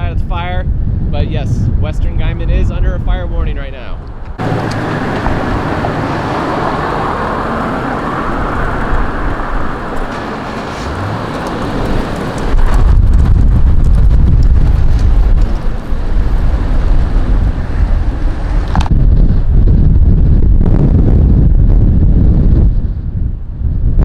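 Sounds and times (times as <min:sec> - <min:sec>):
vehicle road and wind noise: 0:00.0 - 0:24.0
wind buffeting microphone: 0:00.0 - 0:24.0.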